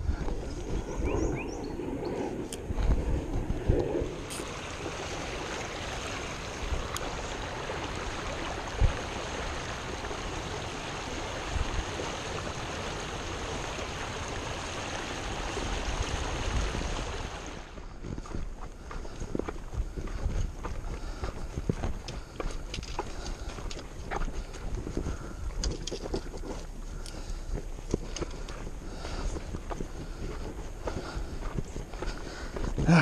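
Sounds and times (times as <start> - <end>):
creek water rushing: 4.0 - 18.0, 18.6 - 33.0.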